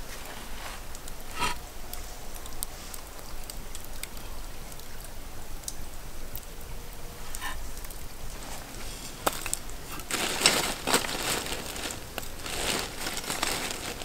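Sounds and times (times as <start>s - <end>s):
crackles and pops: 0.8s - 6.7s, 7.3s - 14.0s.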